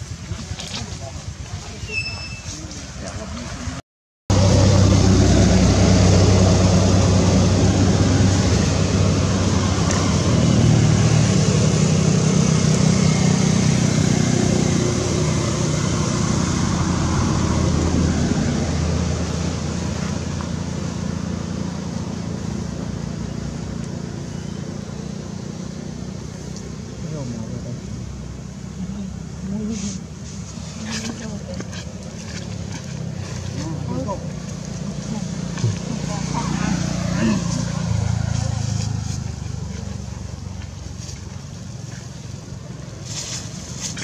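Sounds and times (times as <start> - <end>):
motor engine humming: 4.3 - 43.0.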